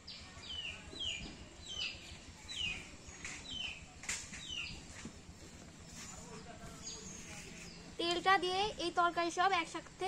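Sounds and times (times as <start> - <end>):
bird chirping: 0.0 - 9.1.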